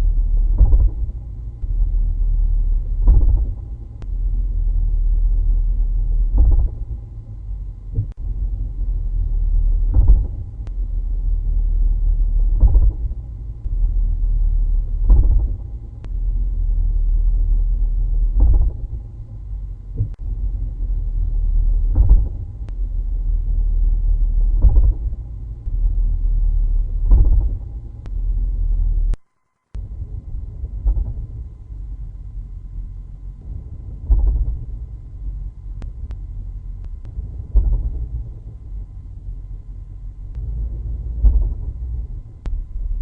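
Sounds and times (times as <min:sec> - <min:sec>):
heavy driveline thumps: 0:00.0 - 0:29.2, 0:29.8 - 0:43.0
low drivetrain rumble: 0:00.0 - 0:29.2, 0:29.8 - 0:43.0.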